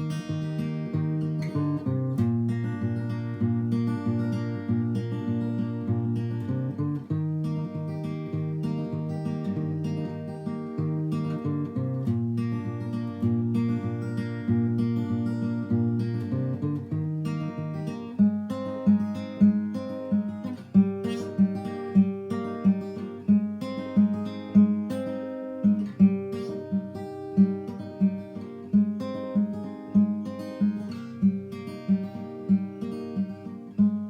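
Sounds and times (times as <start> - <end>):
acoustic guitar picking: 0.0 - 34.0.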